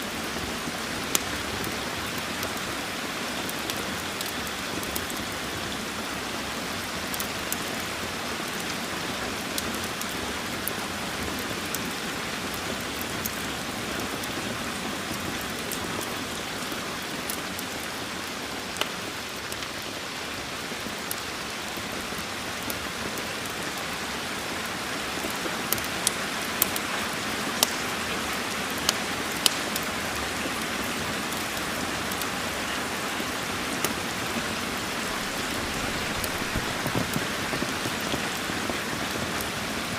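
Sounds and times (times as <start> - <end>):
steady rain: 0.0 - 39.9
wood fire crackling: 0.1 - 39.9.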